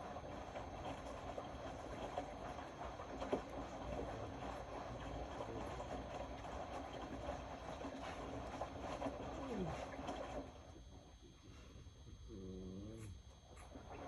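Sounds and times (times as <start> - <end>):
water sloshing in washing machine: 0.0 - 12.3, 13.0 - 14.0.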